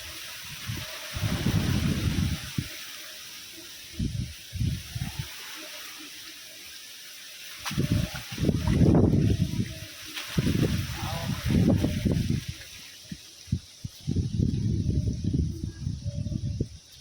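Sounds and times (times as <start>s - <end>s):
flowing water hiss: 0.0s - 17.0s.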